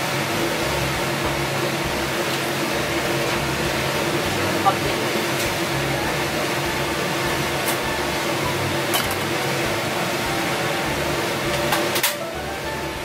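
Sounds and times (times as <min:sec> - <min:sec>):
extractor fan whirring: 0:00.0 - 0:13.0
hum: 0:00.0 - 0:13.0.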